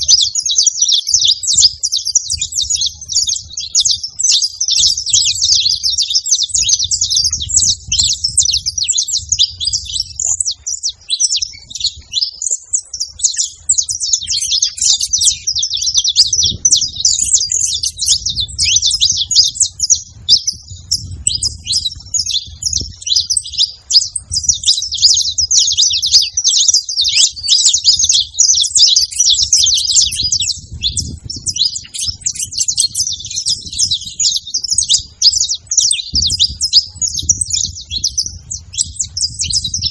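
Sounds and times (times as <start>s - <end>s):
finches singing and chirping: 0.0s - 39.9s.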